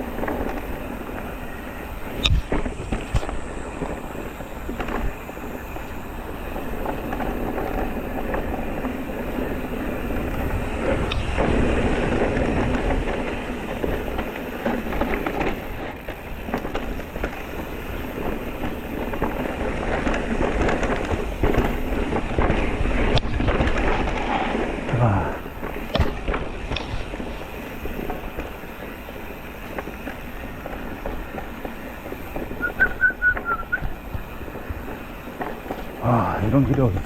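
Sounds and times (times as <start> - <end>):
wind on microphone: 0.0 - 28.5, 29.8 - 37.0
bike knocking and rattling: 0.0 - 37.0
bike tyres on rocky trail: 0.0 - 37.0.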